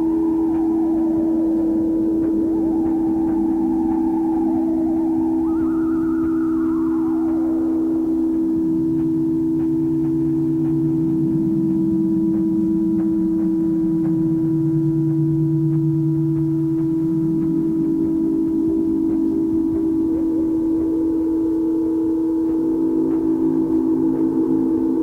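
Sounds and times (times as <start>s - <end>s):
ambient music drone: 0.0s - 25.0s.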